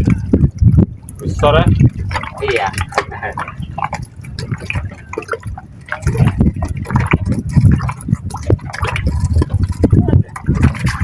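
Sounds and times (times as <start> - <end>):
low surging rumble: 0.0 - 11.0
water dripping: 0.0 - 11.0
water splashing and sloshing: 0.0 - 11.0.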